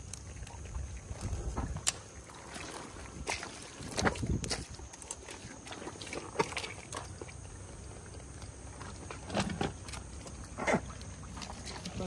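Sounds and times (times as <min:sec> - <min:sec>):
wet squelches and knocks in mud: 0:00.0 - 0:12.0.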